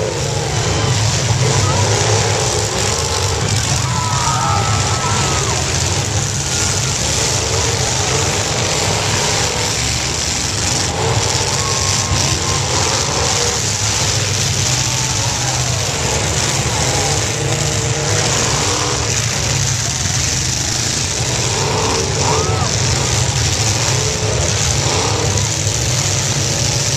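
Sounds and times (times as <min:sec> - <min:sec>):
car engines revving: 0:00.0 - 0:26.9.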